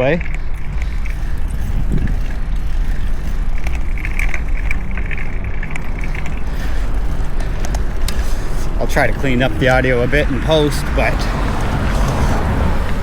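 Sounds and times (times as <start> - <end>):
tyres rolling on pavement: 0.0 - 13.0
wind buffeting microphone: 0.0 - 13.0.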